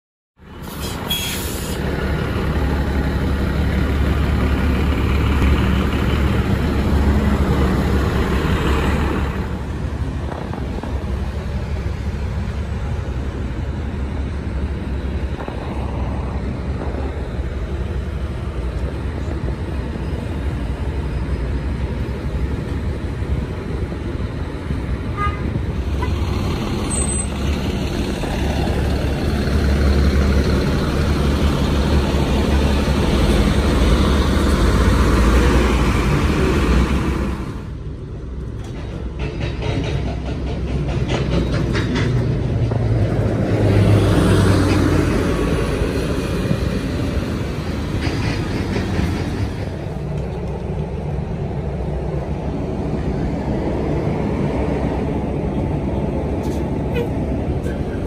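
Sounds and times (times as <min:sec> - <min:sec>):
bus engines rumbling: 0:00.4 - 0:58.0.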